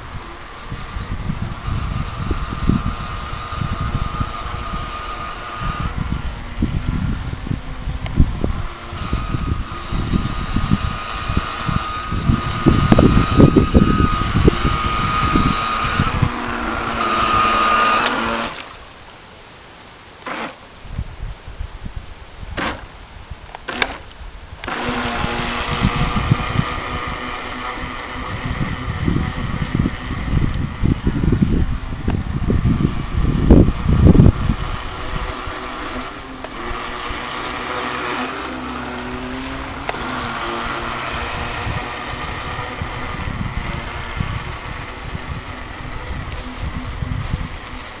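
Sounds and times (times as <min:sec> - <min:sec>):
wind buffeting microphone: 0:00.0 - 0:18.6, 0:20.8 - 0:48.0
electric motor whining: 0:00.0 - 0:18.9, 0:20.2 - 0:20.6, 0:22.6 - 0:48.0.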